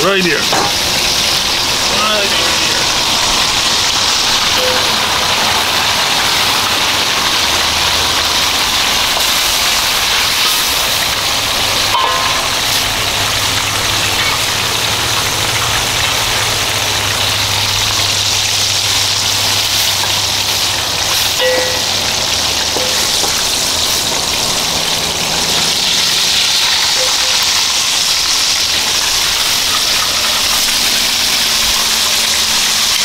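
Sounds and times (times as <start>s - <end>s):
food sizzling in a wok: 0.4s - 33.0s.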